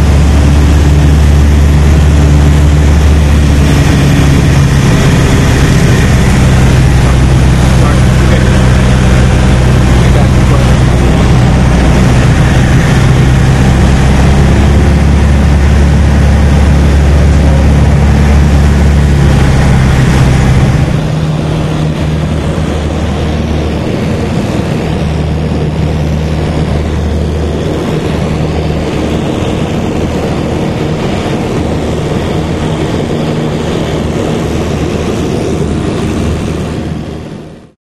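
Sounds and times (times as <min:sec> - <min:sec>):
propeller plane engine: 0:00.0 - 0:37.8.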